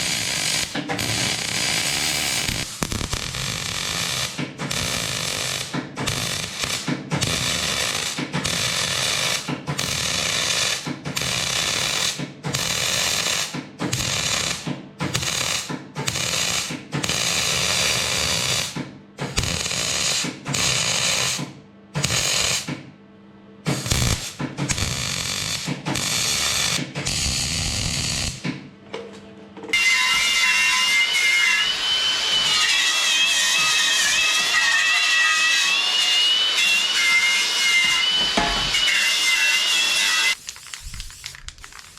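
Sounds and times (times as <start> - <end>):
arc welding crackling: 0.0 - 21.4, 22.0 - 22.7, 23.7 - 28.4, 30.1 - 41.9.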